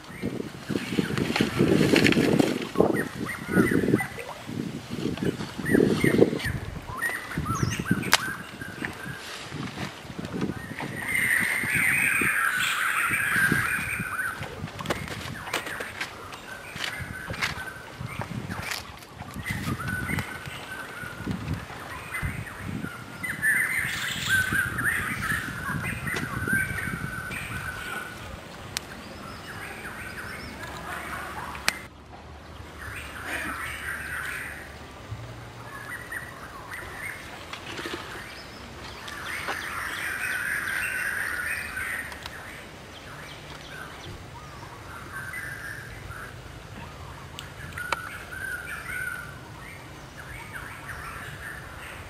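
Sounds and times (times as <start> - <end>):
birds chirping and calling: 0.0 - 9.7, 10.4 - 34.9, 35.6 - 52.0.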